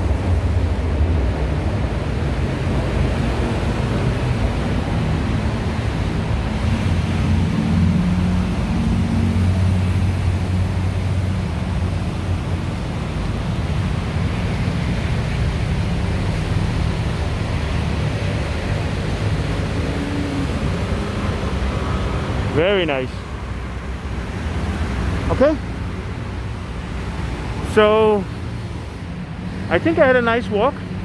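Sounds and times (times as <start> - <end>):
rushing street noise: 0.0 - 31.0.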